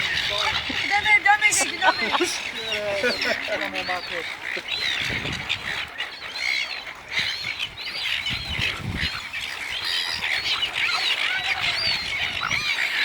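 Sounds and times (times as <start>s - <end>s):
gulls squawking: 0.0s - 13.0s.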